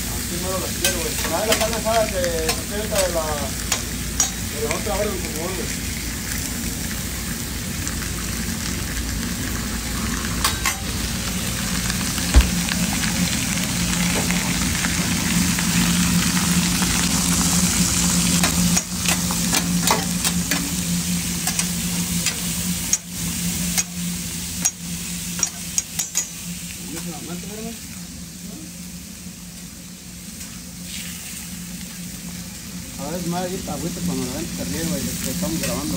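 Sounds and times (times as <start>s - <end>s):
meat sizzling on a griddle: 0.0s - 35.9s.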